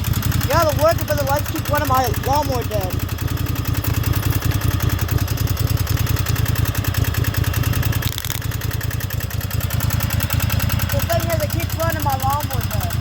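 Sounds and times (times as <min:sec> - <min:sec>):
lawnmower engine idling: 0:00.0 - 0:13.0.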